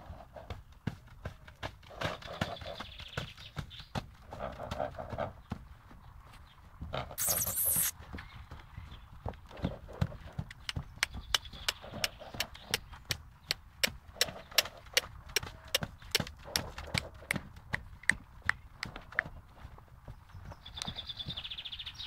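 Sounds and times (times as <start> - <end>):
horse trotting on sand: 0.0 - 22.0.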